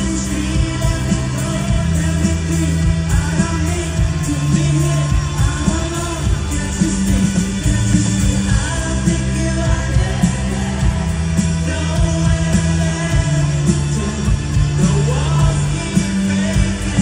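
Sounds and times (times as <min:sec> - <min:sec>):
bass notes: 0:00.0 - 0:17.0
drums: 0:00.0 - 0:17.0
electric guitar: 0:00.0 - 0:17.0
singer: 0:00.0 - 0:17.0.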